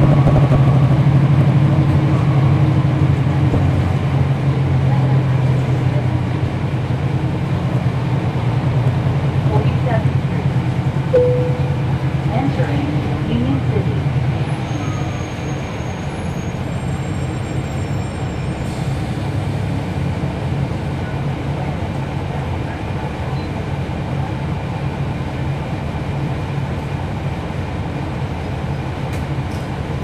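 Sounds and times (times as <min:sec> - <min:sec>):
bus diesel engine humming: 0:00.0 - 0:30.0.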